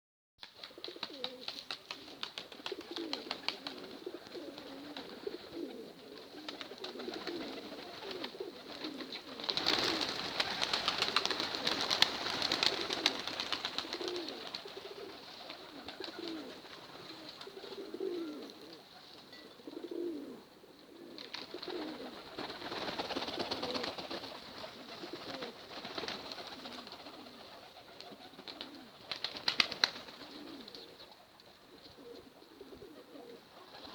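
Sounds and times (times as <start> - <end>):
pigeons cooing: 0.6 - 33.9.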